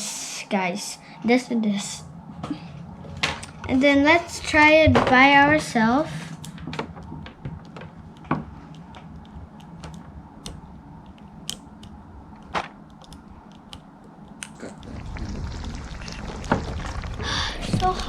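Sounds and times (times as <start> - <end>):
low hum: 0.9 - 18.0.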